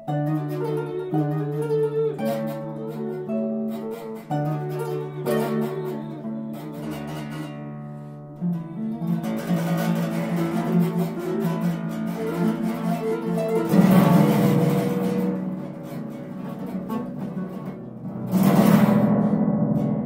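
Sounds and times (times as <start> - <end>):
harp playing: 0.0 - 20.0.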